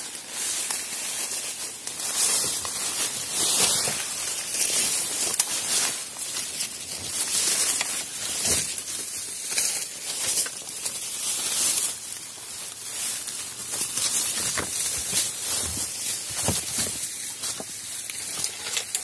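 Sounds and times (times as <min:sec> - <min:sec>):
bamboo leaves rustling and crunching: 0:00.0 - 0:19.0.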